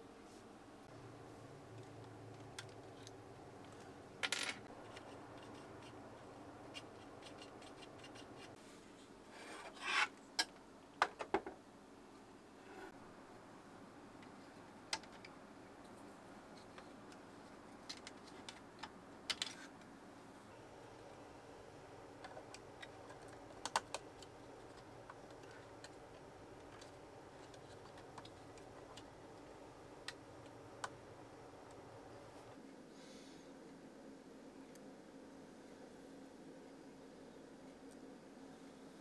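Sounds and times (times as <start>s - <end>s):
faint background hiss: 0.0s - 39.0s.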